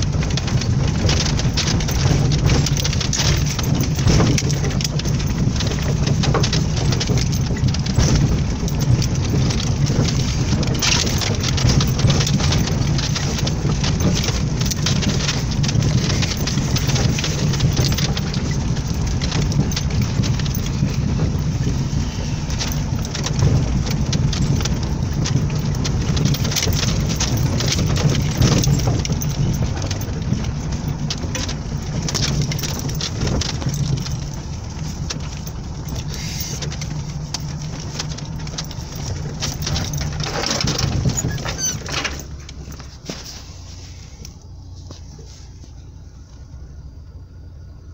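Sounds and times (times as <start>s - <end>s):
car body rattling: 0.0s - 47.9s
car engine droning: 0.0s - 47.9s
tyres crackling on forest track: 0.0s - 47.9s.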